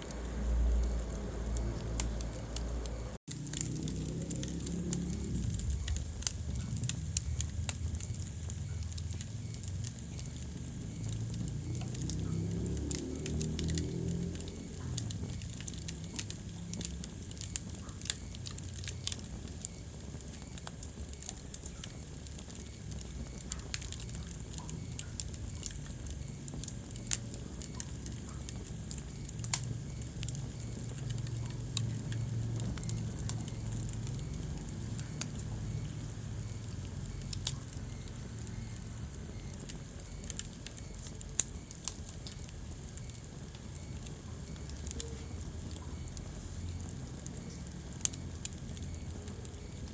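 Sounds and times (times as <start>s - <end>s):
fire pops and snaps: 0.0s - 49.9s
wood fire crackling: 0.0s - 49.9s.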